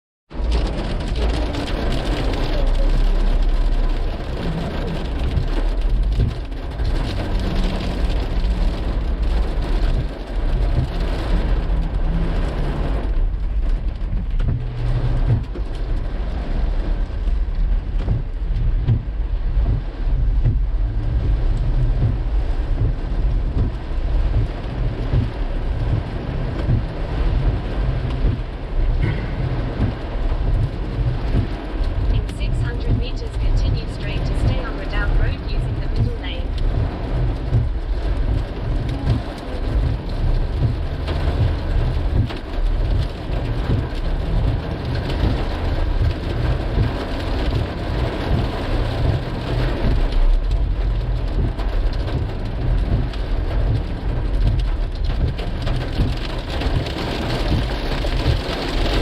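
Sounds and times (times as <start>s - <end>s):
hail clattering: 0.3s - 59.0s
heavy low rumble: 0.3s - 59.0s.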